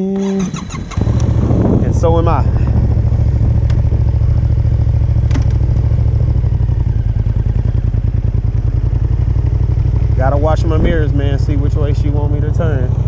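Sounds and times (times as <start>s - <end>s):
motorcycle engine idling: 0.2s - 13.0s.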